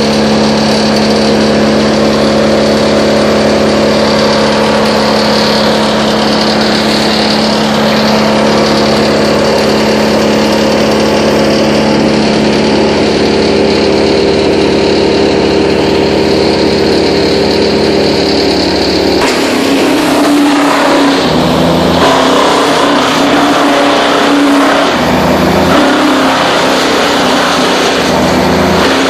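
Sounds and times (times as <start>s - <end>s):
wood chipper engine running: 0.0s - 29.0s
wood chipper whirring: 0.0s - 29.0s.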